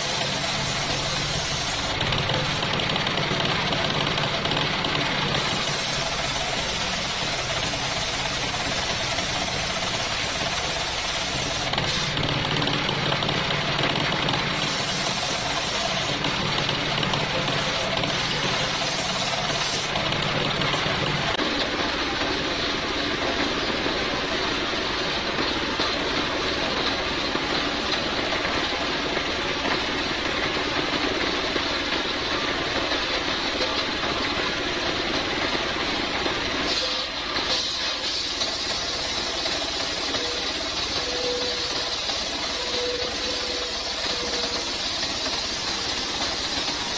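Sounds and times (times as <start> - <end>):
engine drone: 0.0 - 46.9.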